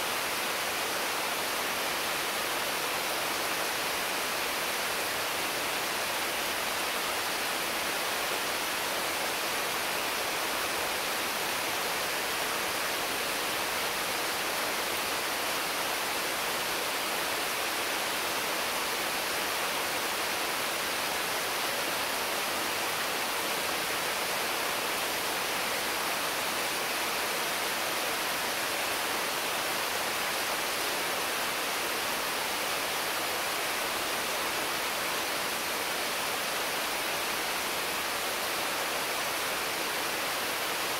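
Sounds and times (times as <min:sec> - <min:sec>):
heavy rain on trees: 0:00.0 - 0:40.9.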